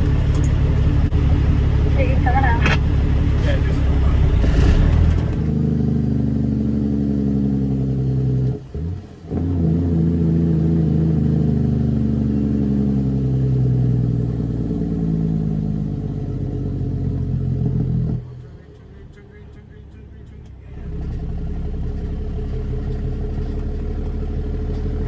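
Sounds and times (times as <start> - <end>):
diesel truck engine under load: 0.0 - 25.0.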